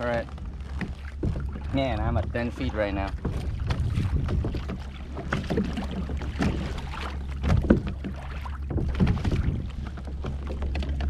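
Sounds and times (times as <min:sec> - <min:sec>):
steady low rumble: 0:00.0 - 0:10.5
water lapping against hull: 0:00.0 - 0:11.0
light knocks on hull: 0:00.2 - 0:11.0.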